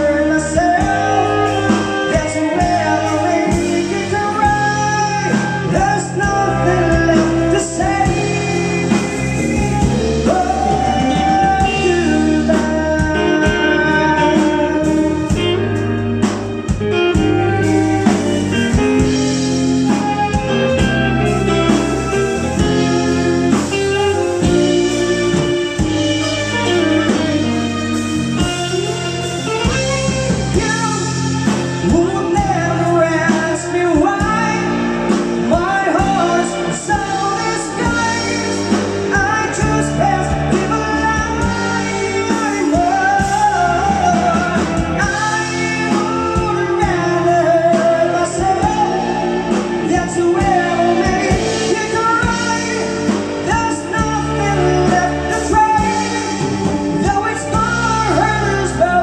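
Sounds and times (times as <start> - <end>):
live band playing: 0.0 - 59.0
person singing: 0.0 - 59.0.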